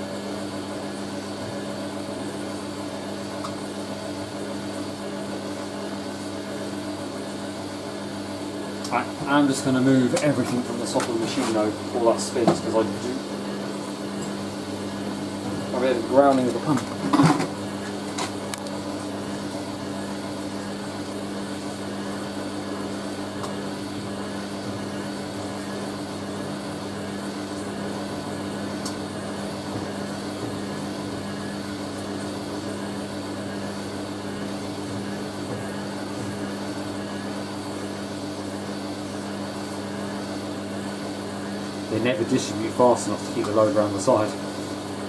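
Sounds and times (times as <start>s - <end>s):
washing machine humming: 0.0s - 45.0s.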